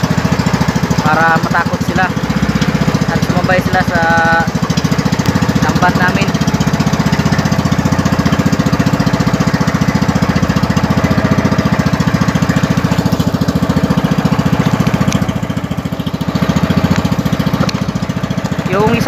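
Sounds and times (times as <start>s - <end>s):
boat engine puttering: 0.0s - 19.0s.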